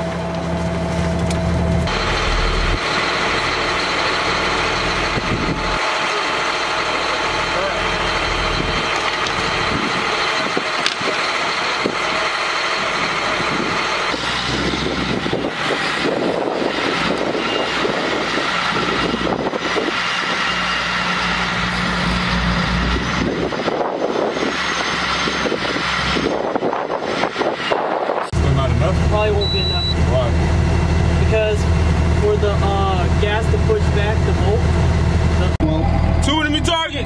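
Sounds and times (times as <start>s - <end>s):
diesel truck engine: 0.0s - 37.0s.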